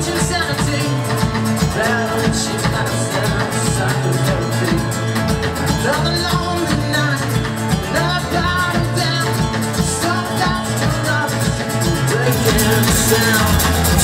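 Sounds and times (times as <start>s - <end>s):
man singing into a microphone: 0.0s - 5.2s, 5.8s - 14.0s
drum kit with cymbals: 0.0s - 14.0s
electric bass: 0.0s - 14.0s
nylon-string acoustic guitar: 0.0s - 14.0s.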